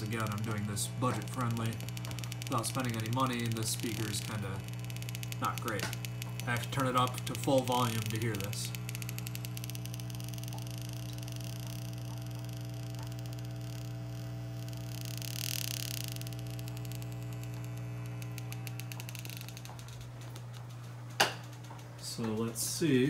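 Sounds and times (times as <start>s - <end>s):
rapid irregular ticking: 0.0s - 22.5s.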